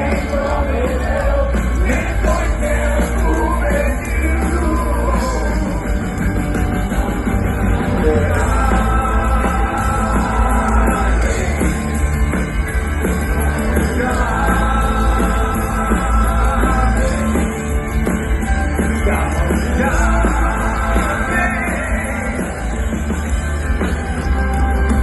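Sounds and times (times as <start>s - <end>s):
rock band playing loud: 0.0s - 25.0s.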